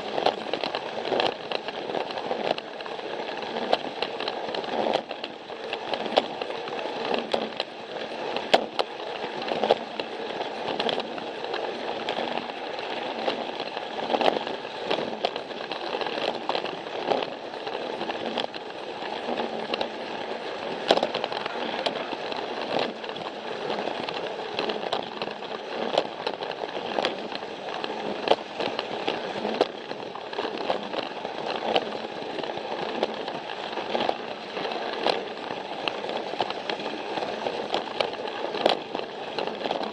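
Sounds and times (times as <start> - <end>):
clicks and rattles on track: 0.0 - 39.9
toy train motor whirring: 0.0 - 39.9.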